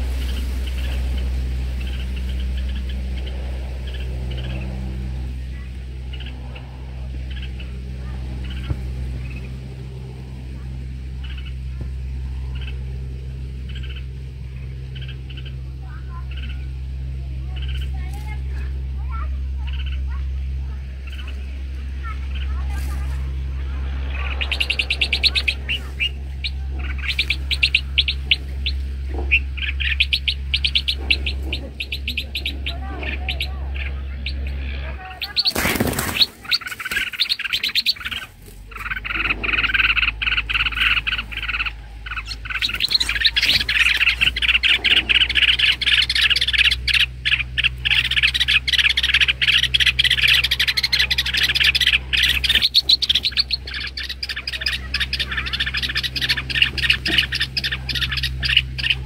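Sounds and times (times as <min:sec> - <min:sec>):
birds chirping in distress: 0:00.0 - 0:59.0
steady low hum: 0:00.0 - 0:59.0.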